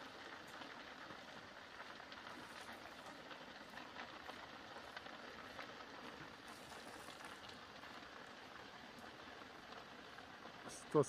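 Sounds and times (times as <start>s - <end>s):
brush fire crackling: 0.0s - 11.0s.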